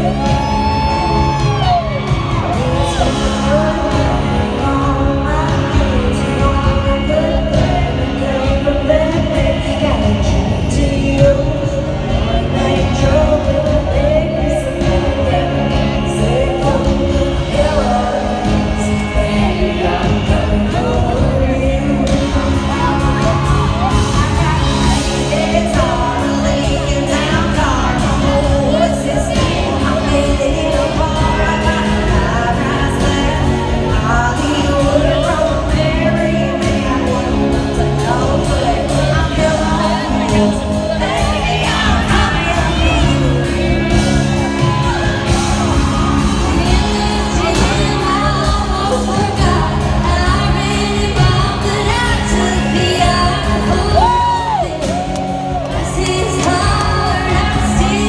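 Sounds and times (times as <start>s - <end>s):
country band playing: 0.0s - 58.0s
women singing: 0.0s - 58.0s.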